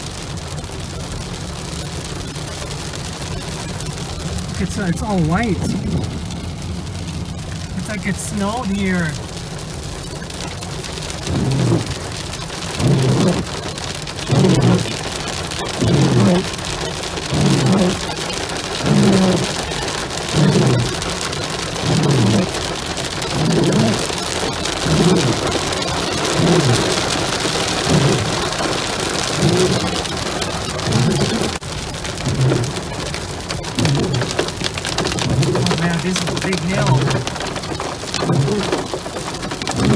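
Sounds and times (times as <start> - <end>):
hail and rain on car roof: 0.0 - 39.9
windshield wipers swishing: 0.0 - 39.9.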